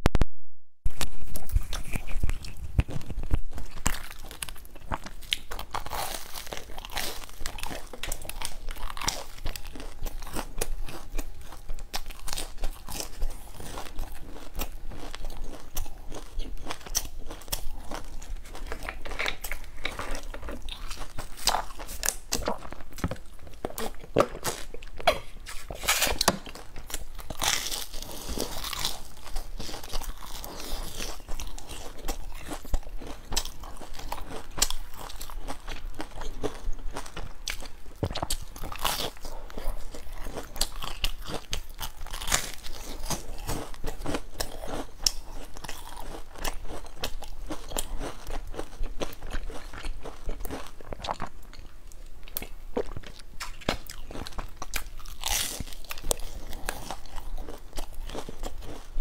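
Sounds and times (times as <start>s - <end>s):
crunching of crusty pastry: 0.9s - 59.0s.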